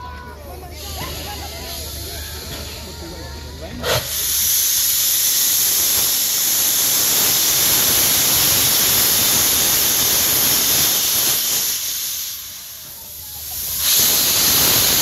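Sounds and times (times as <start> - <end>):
steam hissing from locomotive: 0.6 - 15.0.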